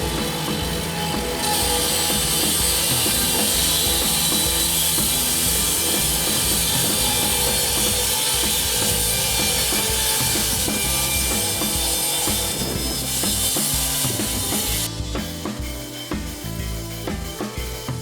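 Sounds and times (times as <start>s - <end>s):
band saw cutting through log: 0.0s - 15.5s
background music with drum beat: 0.0s - 18.0s.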